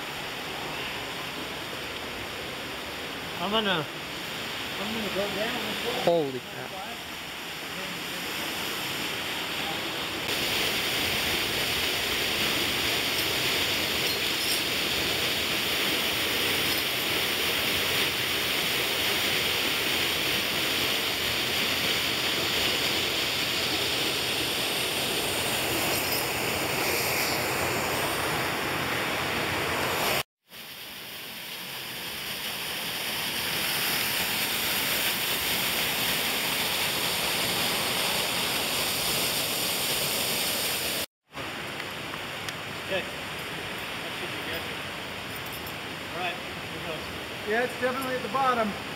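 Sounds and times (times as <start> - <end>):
creek water rushing: 0.0 - 48.9.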